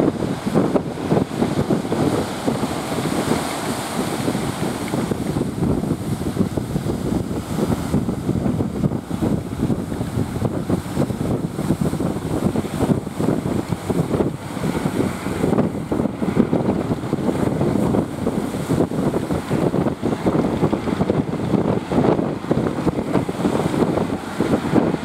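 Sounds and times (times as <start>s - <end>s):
water noise: 0.0s - 25.0s
wind buffeting microphone: 0.0s - 25.0s.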